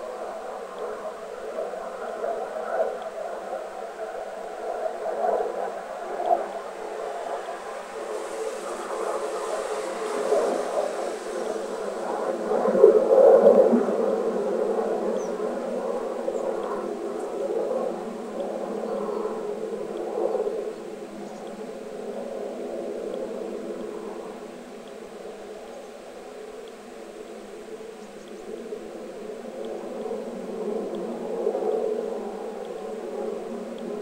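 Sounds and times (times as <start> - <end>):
wavering droning hum: 0.0 - 34.0.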